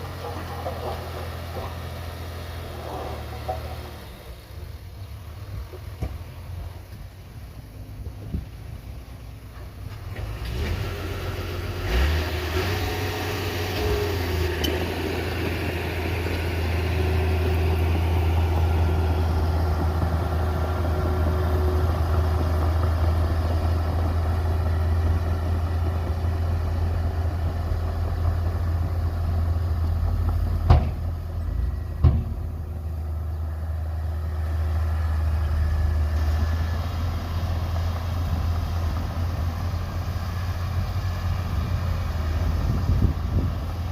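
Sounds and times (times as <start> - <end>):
diesel machinery engine droning: 0.0 - 43.9.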